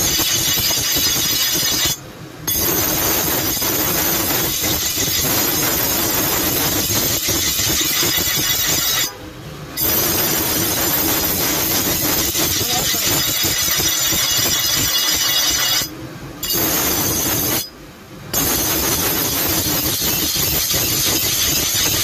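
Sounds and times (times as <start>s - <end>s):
blade grinding on grinder wheel: 0.0s - 9.1s, 9.8s - 17.7s, 18.3s - 22.0s.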